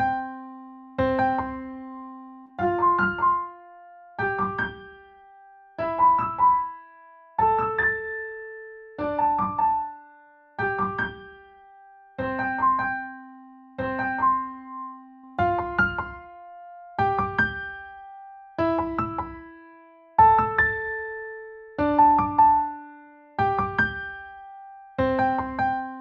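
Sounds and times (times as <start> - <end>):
piano-like keyboard music: 0.0 - 26.0.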